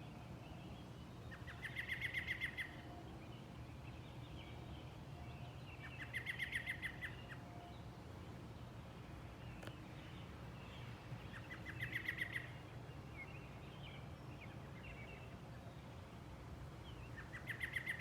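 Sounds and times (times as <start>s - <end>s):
songbird trill: 0.0s - 18.0s.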